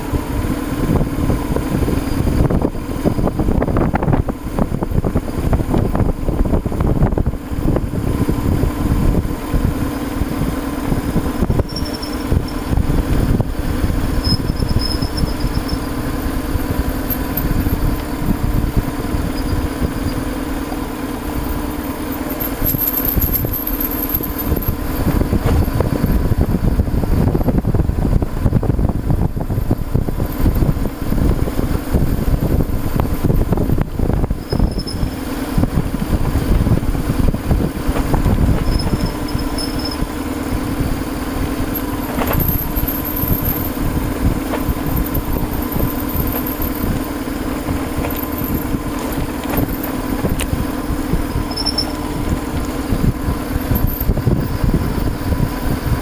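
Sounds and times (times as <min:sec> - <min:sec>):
motorcycle engine running: 0:00.0 - 0:56.0
rumble of bumpy ride: 0:00.0 - 0:56.0
wind: 0:00.0 - 0:56.0.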